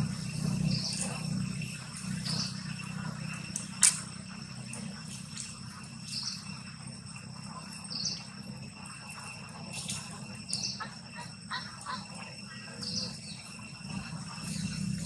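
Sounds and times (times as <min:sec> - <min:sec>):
insects trilling: 0:00.0 - 0:15.0
low hum: 0:00.0 - 0:15.0.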